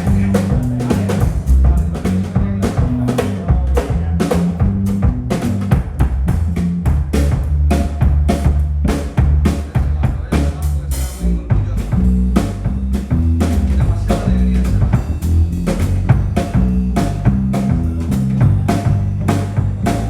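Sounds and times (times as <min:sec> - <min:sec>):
drum kit beat: 0:00.0 - 0:20.0
live band playing: 0:00.0 - 0:20.0.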